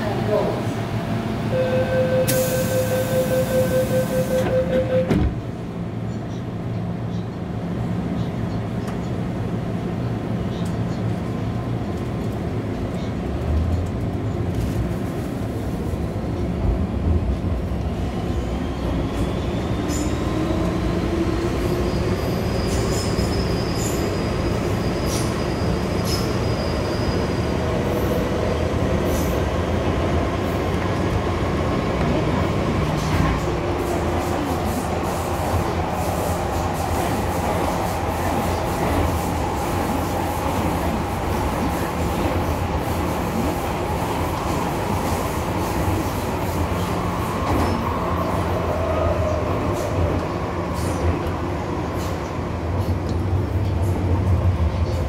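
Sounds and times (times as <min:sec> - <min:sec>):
wheel and rail rumble: 0:03.2 - 0:55.0.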